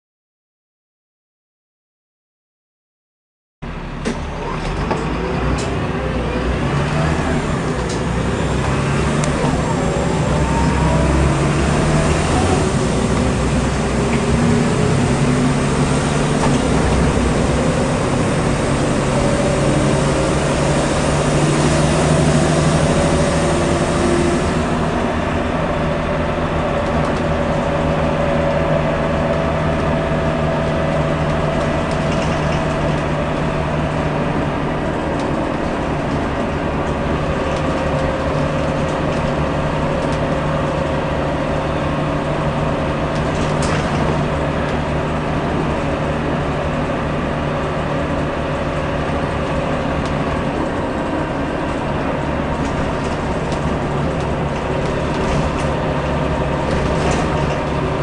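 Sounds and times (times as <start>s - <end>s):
bus diesel engine running: 3.6s - 58.0s
road noise: 3.6s - 58.0s.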